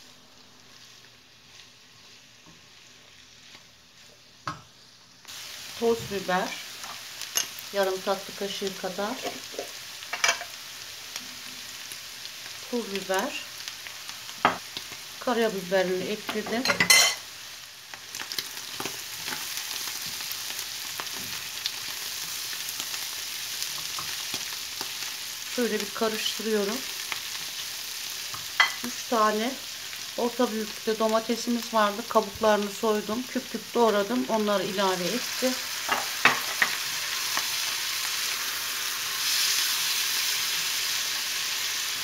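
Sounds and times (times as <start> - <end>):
food sizzling in a frying pan: 0.0 - 42.0.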